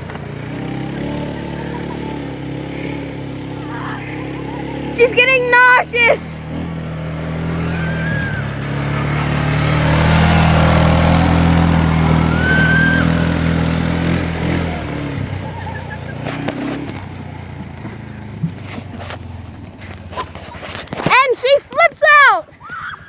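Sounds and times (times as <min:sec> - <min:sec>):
vehicle engine passing by: 0:00.0 - 0:20.9.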